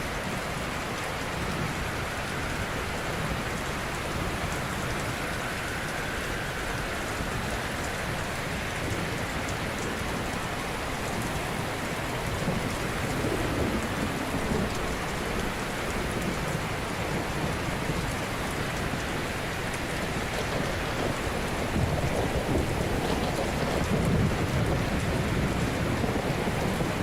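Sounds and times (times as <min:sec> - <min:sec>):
ocean waves washing onto shore: 0:00.0 - 0:27.0.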